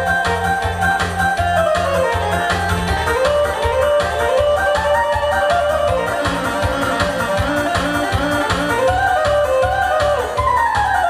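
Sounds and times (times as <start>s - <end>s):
upbeat music over speaker: 0.0s - 11.0s.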